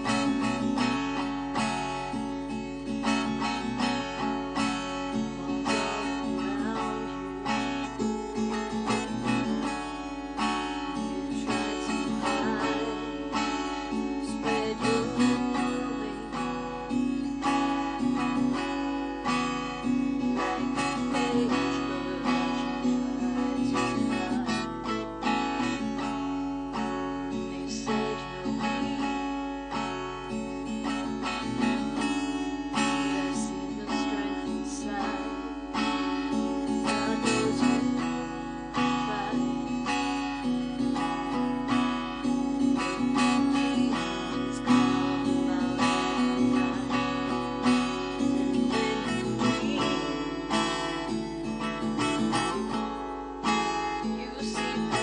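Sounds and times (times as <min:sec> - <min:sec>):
acoustic guitar folk song: 0:00.0 - 0:55.0
woman singing: 0:00.0 - 0:55.0.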